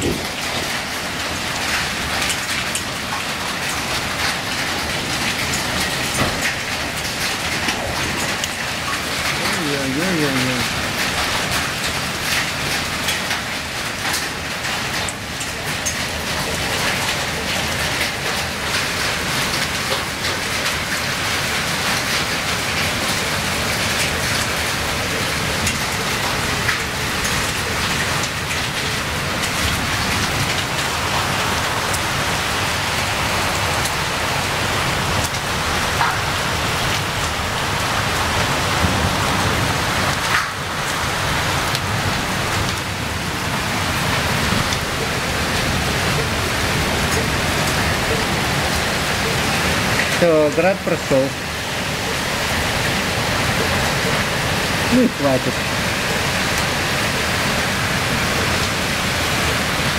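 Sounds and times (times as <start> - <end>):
hail and heavy rain on roofs: 0.0 - 59.9.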